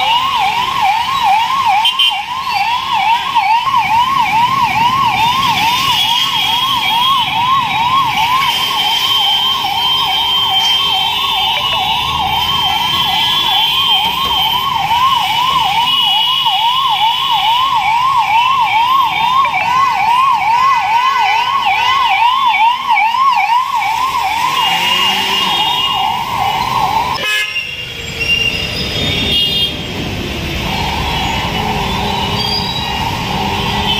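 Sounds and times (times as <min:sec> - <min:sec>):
ambulance siren yelping: 0:00.0 - 0:27.4, 0:30.5 - 0:33.9
traffic noise: 0:00.0 - 0:33.9.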